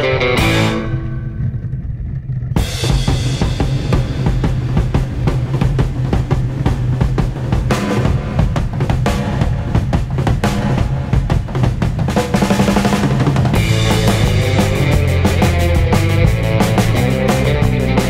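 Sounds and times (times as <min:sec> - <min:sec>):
drum kit playing: 0:00.0 - 0:18.0
low bass: 0:00.0 - 0:18.0
rock music: 0:00.0 - 0:18.0.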